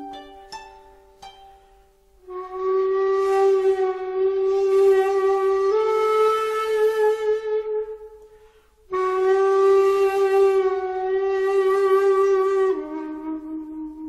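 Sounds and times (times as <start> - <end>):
slow solo flute: 0.0 - 14.0.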